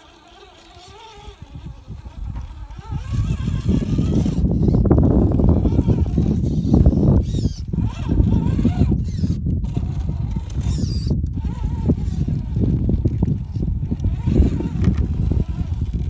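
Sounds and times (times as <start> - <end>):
electric motor whines: 0.0 - 16.0
tyres grinding on rock: 0.0 - 16.0.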